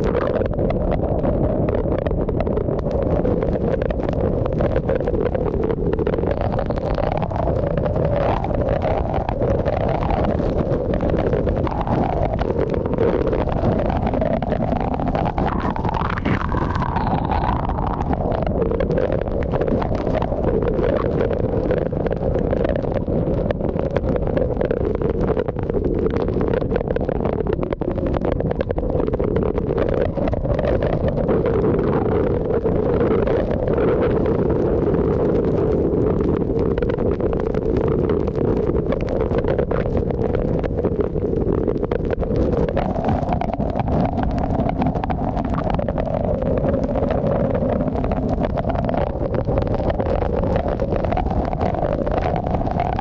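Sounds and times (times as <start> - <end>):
rain crackling on car: 0.0 - 53.0
wind howling against car: 0.0 - 53.0.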